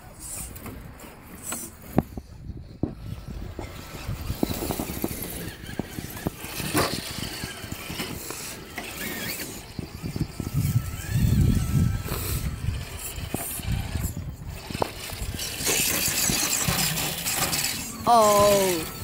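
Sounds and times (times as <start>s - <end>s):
electric motor and gearbox whining: 0.0s - 19.0s.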